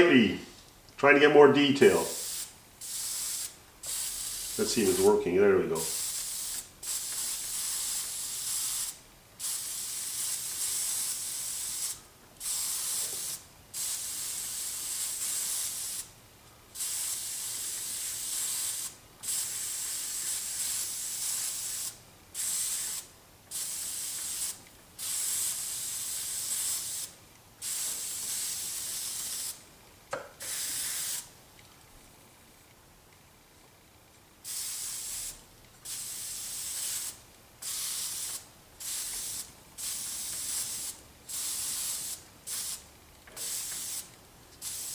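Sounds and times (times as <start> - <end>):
airbrush spraying hiss: 2.0 - 5.2, 5.8 - 16.1, 16.8 - 29.6, 30.4 - 31.3, 34.4 - 42.8, 43.4 - 44.9.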